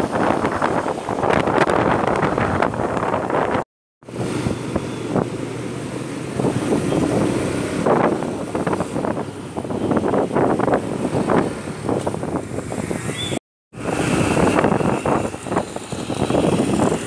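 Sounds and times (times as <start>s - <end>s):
wind buffeting microphone: 0.0s - 5.4s, 6.3s - 13.2s, 13.8s - 17.0s
street traffic noise: 0.0s - 17.0s.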